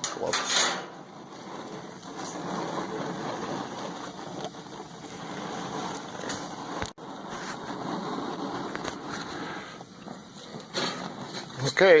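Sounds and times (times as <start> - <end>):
gas grill burners rushing: 0.0 - 12.0.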